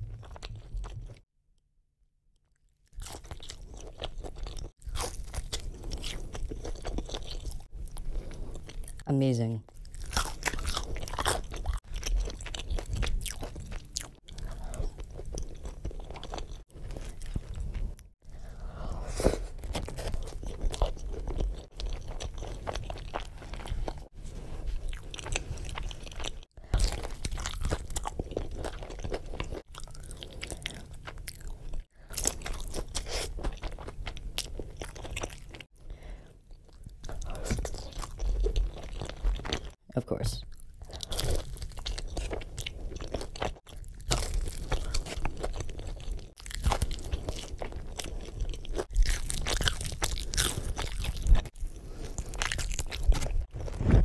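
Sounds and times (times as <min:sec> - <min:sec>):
crunching and chewing fried chicken: 0:00.0 - 0:01.2, 0:02.5 - 0:09.1, 0:09.7 - 0:18.5, 0:19.4 - 0:39.8, 0:40.5 - 0:54.0.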